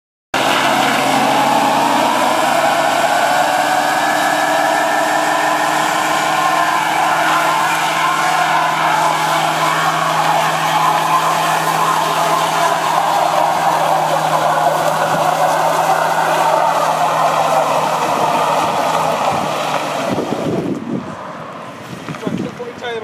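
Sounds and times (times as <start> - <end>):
tyres squealing: 0.4 - 21.7
car engine held at steady revs: 0.4 - 22.7.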